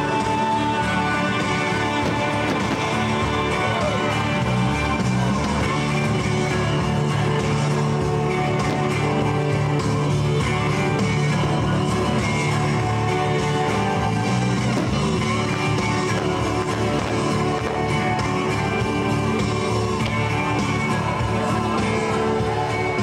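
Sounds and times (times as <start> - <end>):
guitar-backed song: 0.0 - 23.0.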